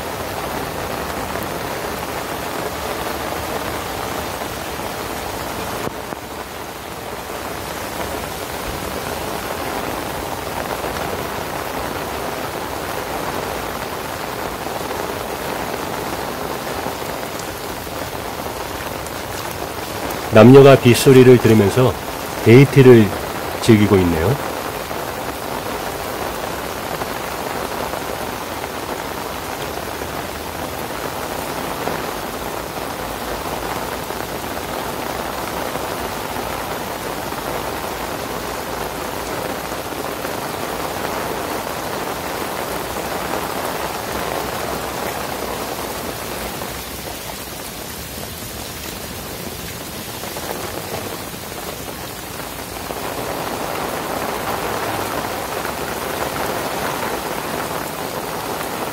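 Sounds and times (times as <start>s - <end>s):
heavy rain on standing water: 0.0s - 58.9s.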